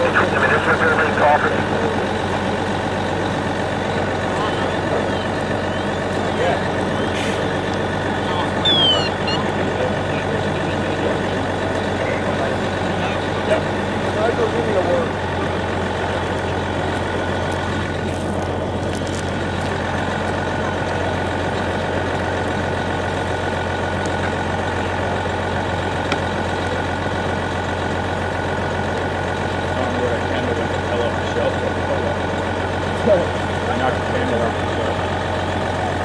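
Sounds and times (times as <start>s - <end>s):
fire engine idling: 0.0s - 36.0s.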